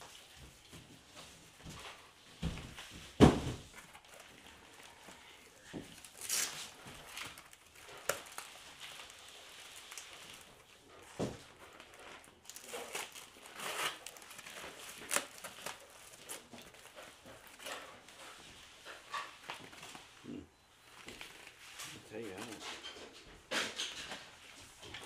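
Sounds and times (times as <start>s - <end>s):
packing wrap crinkling: 2.4s - 23.0s.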